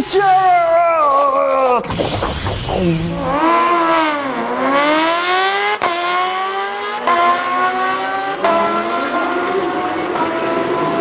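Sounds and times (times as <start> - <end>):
motorcycle engine at full throttle: 1.9 - 11.0.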